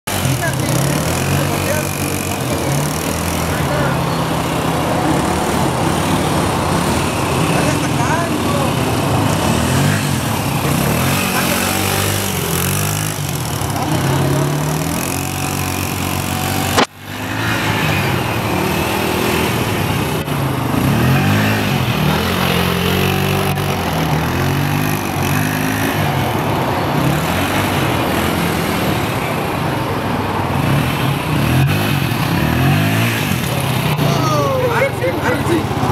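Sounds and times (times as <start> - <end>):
small quad engine revving: 0.1 - 35.9.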